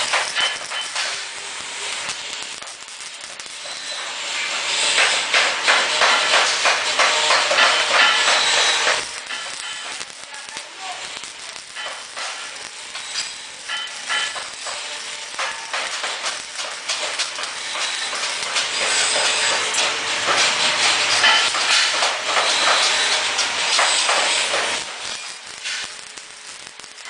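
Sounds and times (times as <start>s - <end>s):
welding arc hissing and crackling: 0.0s - 27.0s.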